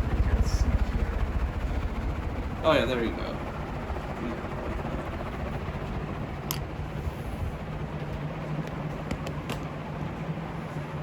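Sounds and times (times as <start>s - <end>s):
ceiling fan humming: 0.0s - 11.0s
rush of air from fan blades: 0.0s - 11.0s.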